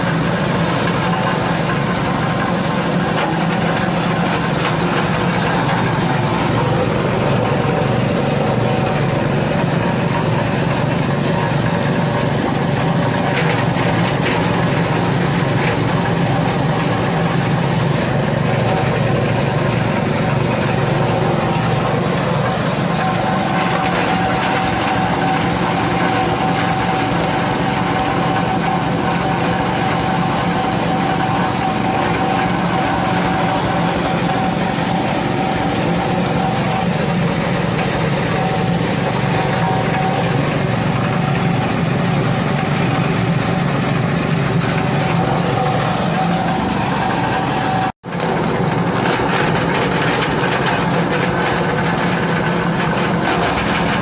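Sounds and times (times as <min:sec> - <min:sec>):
grinding machine motor hum: 0:00.0 - 0:54.0.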